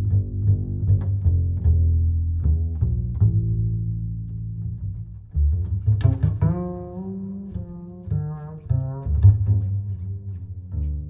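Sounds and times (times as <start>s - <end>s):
deep bass line: 0.0s - 11.0s.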